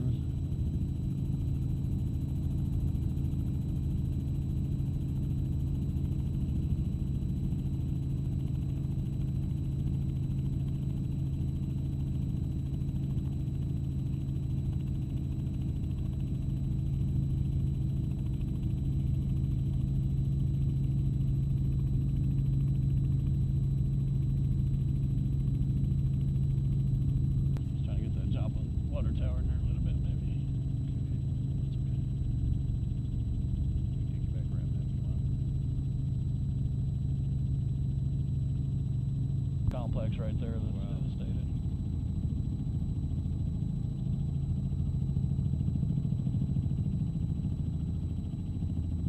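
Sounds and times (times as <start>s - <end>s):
aircraft engine and rotor drone: 0.0s - 49.0s
faint high whine: 0.0s - 49.0s.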